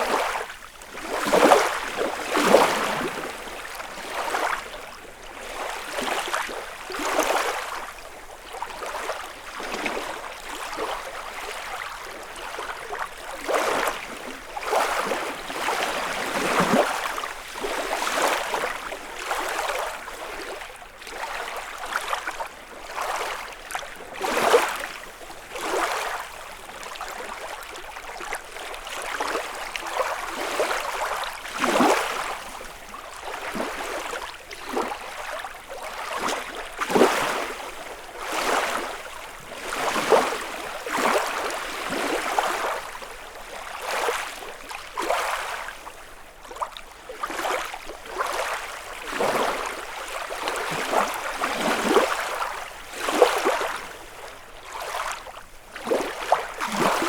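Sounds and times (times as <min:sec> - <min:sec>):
lake waves lapping on shore: 0:00.0 - 0:57.0.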